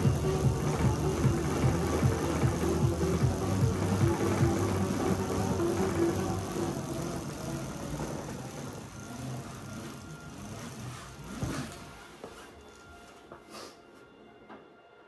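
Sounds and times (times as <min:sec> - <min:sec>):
bicycle tyres spinning on rollers: 0:00.0 - 0:13.0.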